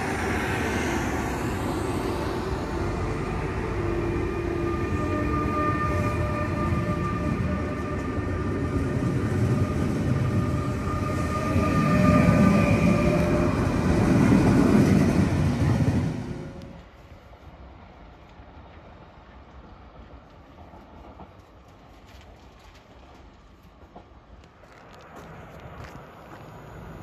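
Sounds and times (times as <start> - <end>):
train rumble: 0.0 - 27.0
train whine: 0.0 - 27.0.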